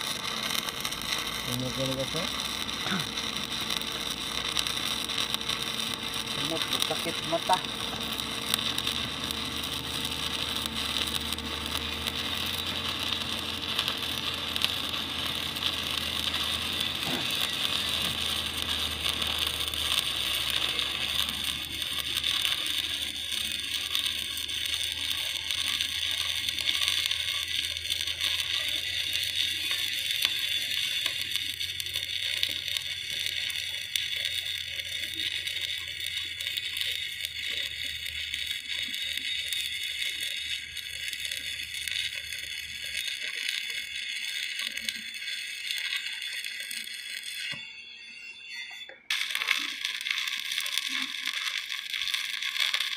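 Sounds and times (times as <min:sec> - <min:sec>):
welding arc crackling: 0:00.0 - 0:52.9.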